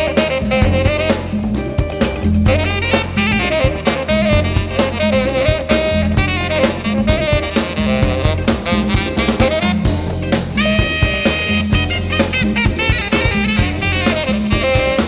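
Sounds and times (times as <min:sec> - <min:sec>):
jazz-funk band playing: 0:00.0 - 0:15.0
saxophone melody: 0:00.0 - 0:15.0.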